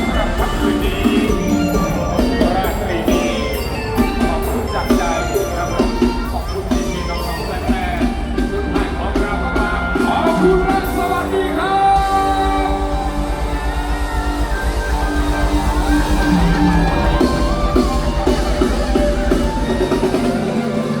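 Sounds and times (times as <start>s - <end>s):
fast drum and bass beat: 0.0s - 21.0s
person singing: 0.0s - 21.0s.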